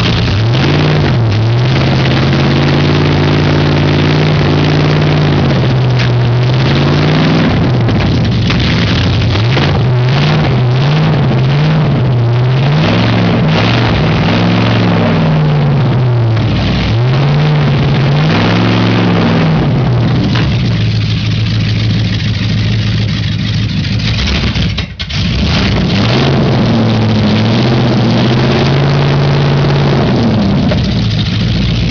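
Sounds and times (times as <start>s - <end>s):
loud car engine revving: 0.0s - 31.9s.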